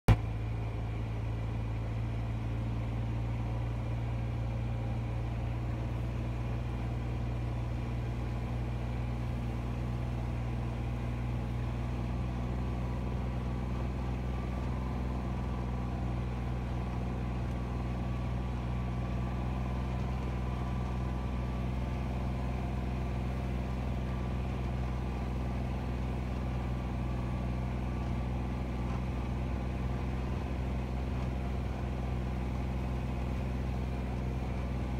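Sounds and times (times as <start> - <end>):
engine droning: 0.1 - 34.9.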